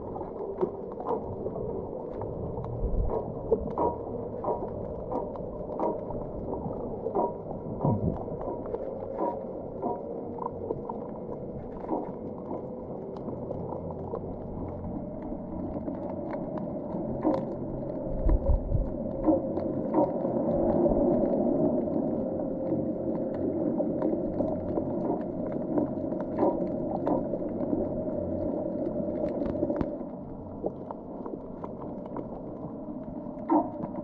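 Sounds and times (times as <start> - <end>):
clicks and crackles: 0.0 - 34.0
faint steady hum: 0.0 - 34.0
muffled underwater noise: 0.0 - 34.0.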